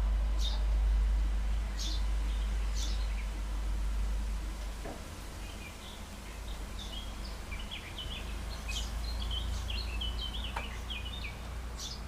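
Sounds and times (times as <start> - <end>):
low steady rumble: 0.0 - 12.0
small songbirds chirping: 0.2 - 12.0.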